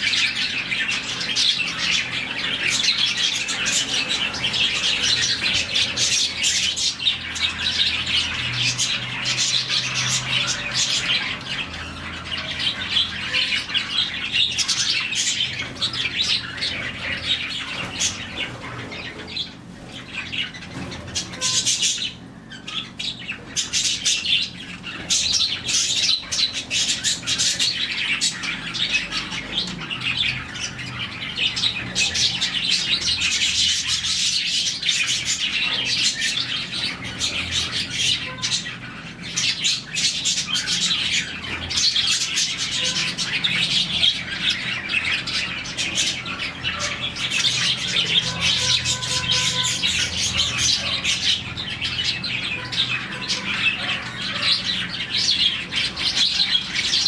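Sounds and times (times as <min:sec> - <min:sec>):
budgies chattering and chirping: 0:00.0 - 0:57.0
harsh bird squawks: 0:00.0 - 0:57.0.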